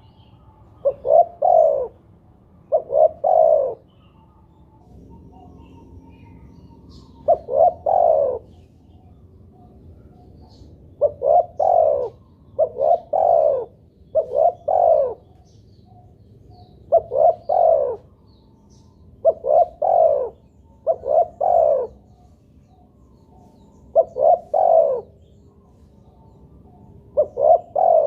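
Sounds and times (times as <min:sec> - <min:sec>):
dove cooing: 0:00.0 - 0:18.4, 0:19.1 - 0:28.0.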